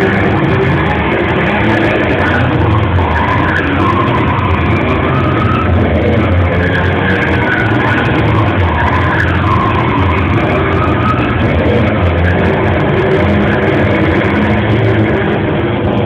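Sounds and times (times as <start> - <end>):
tyre squeal: 0.0 - 14.7
distorted engine noise: 0.0 - 16.0.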